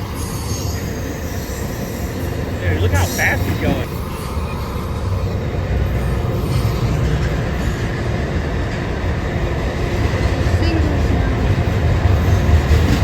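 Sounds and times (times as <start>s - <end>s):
rushing hiss of train: 0.0s - 13.0s
train wheels rumbling on rails: 0.0s - 13.0s.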